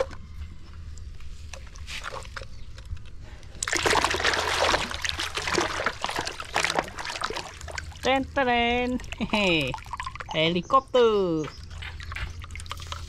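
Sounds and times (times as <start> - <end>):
water splashing and sloshing: 1.2 - 10.7, 11.4 - 13.0.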